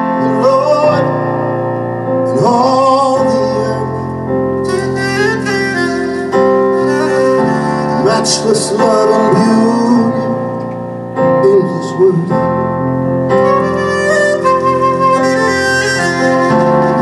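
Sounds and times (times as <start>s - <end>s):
worship song on keyboard: 0.0s - 17.0s.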